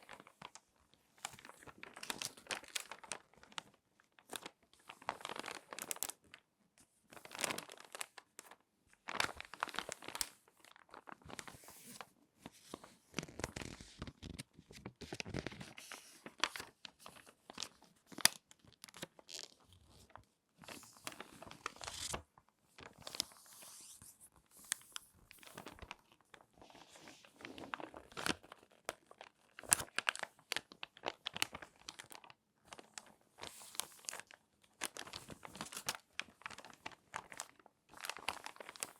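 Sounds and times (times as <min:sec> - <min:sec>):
magazine pages crinkling: 0:01.2 - 0:06.2, 0:07.1 - 0:22.2, 0:22.8 - 0:38.9.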